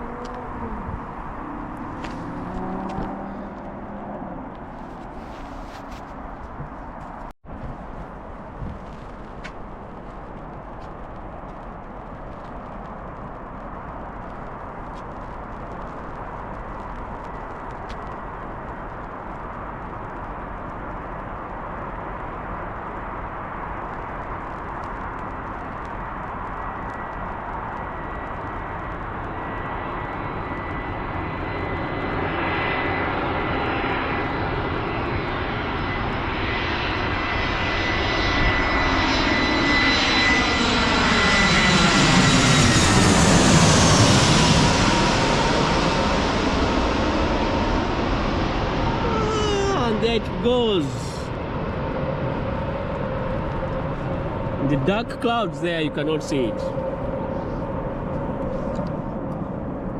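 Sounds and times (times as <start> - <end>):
jet airliner passing overhead: 0.0 - 59.9
jet engine whine: 0.0 - 59.9.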